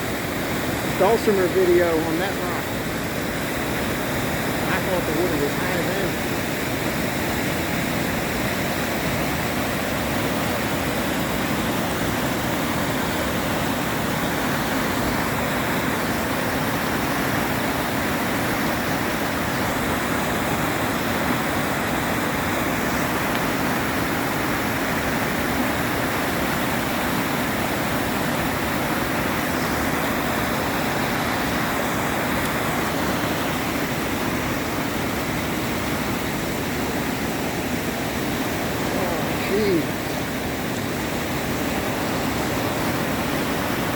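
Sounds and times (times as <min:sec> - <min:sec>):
flooded creek roaring: 0:00.0 - 0:43.9.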